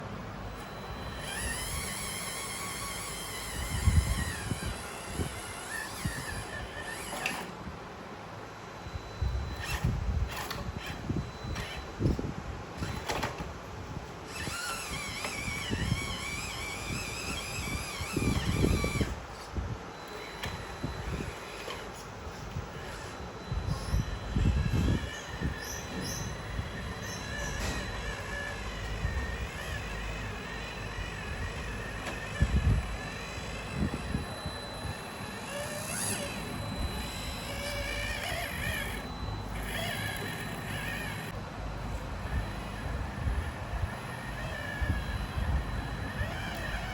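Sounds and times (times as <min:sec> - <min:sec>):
rc car electric motor whining: 0:00.4 - 0:07.6, 0:08.9 - 0:12.2, 0:12.8 - 0:13.4, 0:14.3 - 0:46.9.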